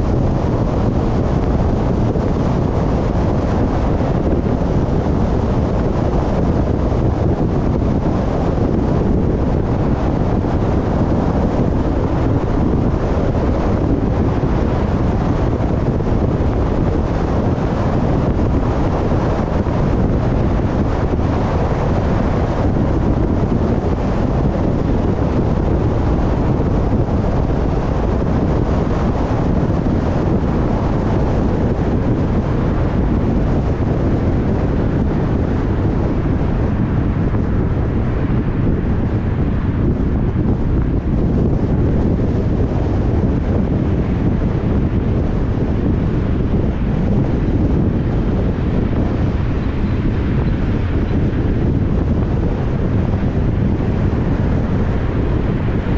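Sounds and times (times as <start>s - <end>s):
car road noise: 0.0s - 55.9s
wind rumbling on microphone: 0.0s - 55.9s.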